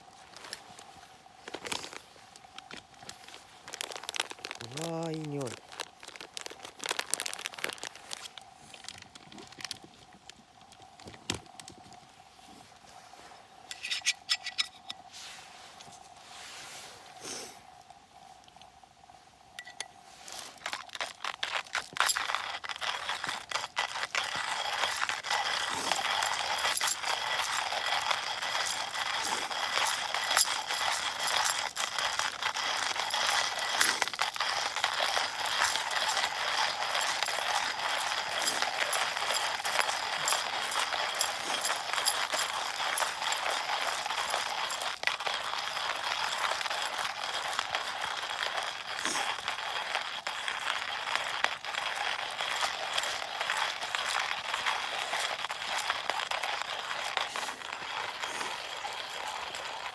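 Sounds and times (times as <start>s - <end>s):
coffee mill grinding beans: 0.0s - 11.9s, 19.6s - 59.9s.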